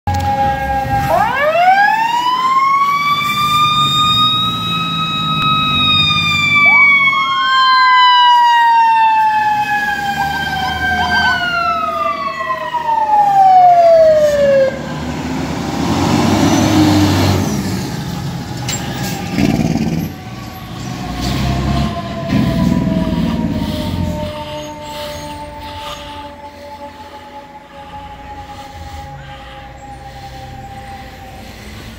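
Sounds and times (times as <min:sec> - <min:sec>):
fire truck sirens wailing: 0:00.1 - 0:31.9
truck engine passing: 0:00.3 - 0:31.9.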